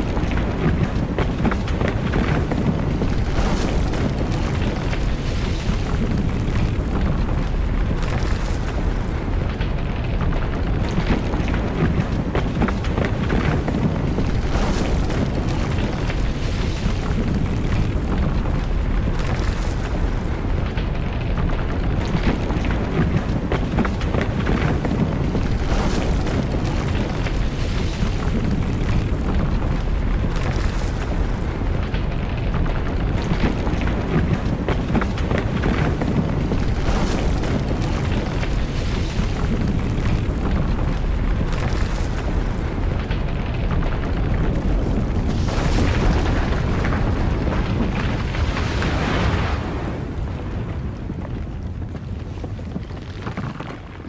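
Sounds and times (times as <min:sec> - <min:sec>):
deep earthquake rumble: 0:00.0 - 0:54.0.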